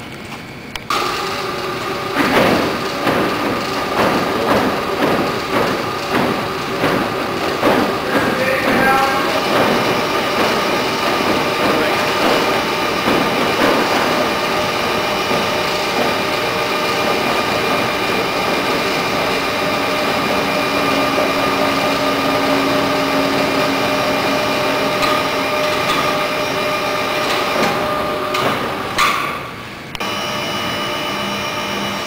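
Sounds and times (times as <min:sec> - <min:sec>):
crane hoists droning: 0:00.0 - 0:32.0.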